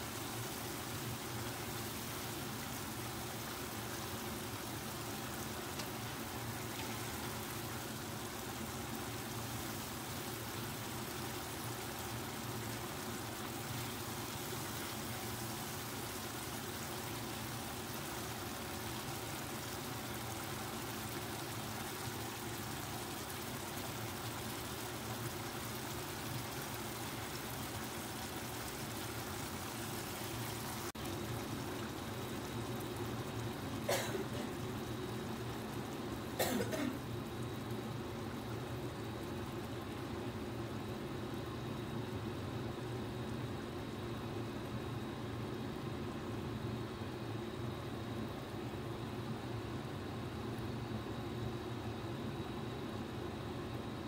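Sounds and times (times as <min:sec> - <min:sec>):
sauce bubbling and sizzling in wok: 0:00.0 - 0:54.0.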